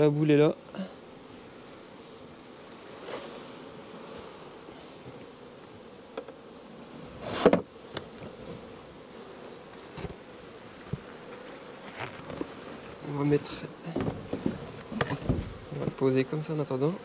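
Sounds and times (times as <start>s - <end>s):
bees buzzing: 0.0s - 17.0s
wooden hive cover scraping: 2.6s - 17.0s.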